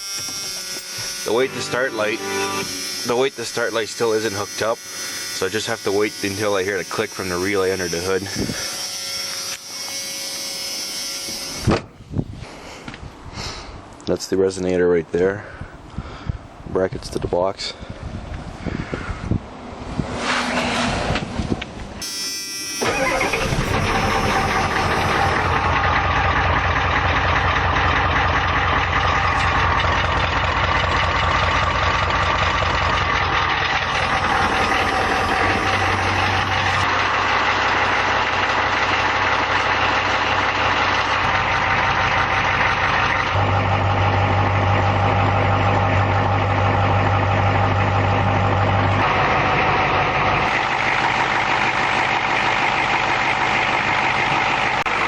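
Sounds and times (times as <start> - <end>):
diesel engine starting and idling: 0.0 - 12.7, 20.4 - 55.0.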